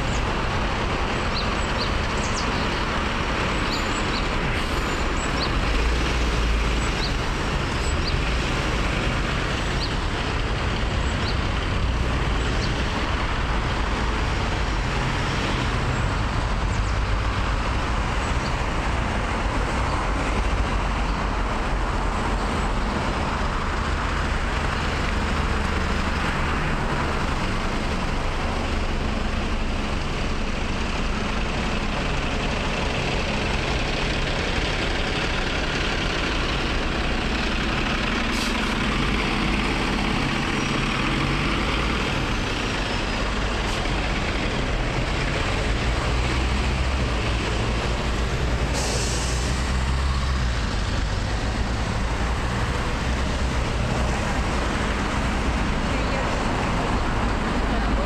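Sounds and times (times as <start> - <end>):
cars passing: 0.0 - 58.0
low diesel engine rumble: 0.0 - 58.0.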